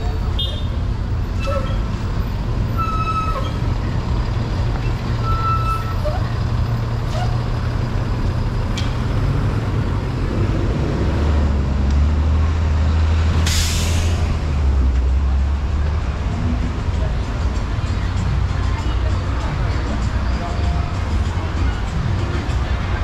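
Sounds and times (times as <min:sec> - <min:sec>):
large vehicle engine humming: 0:00.0 - 0:23.0.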